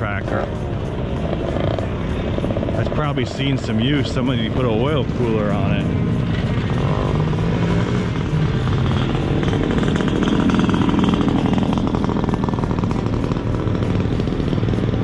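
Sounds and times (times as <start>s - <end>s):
small vehicle engine running: 0.0s - 15.0s.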